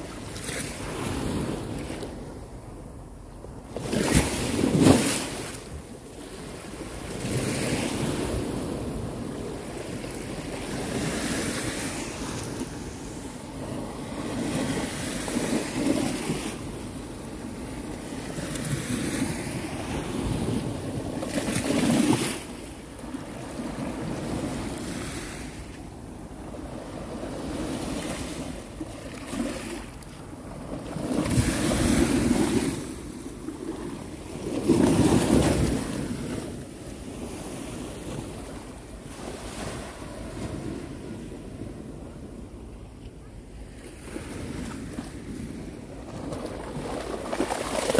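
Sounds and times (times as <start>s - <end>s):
sea waves breaking on beach: 3.7s - 25.7s, 26.4s - 41.9s, 43.8s - 47.9s.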